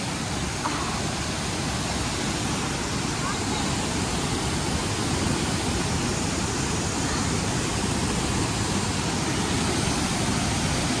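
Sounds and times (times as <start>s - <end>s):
waterfall and stream rushing over rock: 0.0s - 11.0s.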